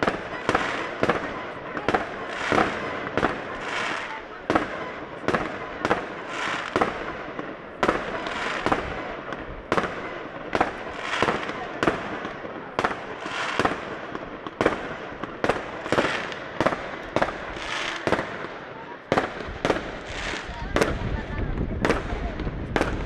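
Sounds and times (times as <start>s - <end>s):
fireworks bursting with bangs: 0.0s - 23.0s.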